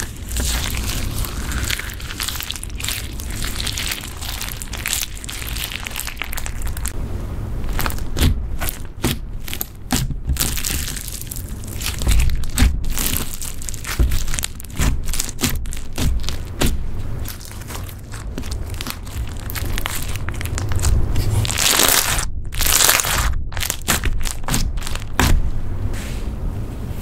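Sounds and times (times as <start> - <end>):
slime beads crackling and crunching: 0.0 - 7.0, 7.6 - 25.4.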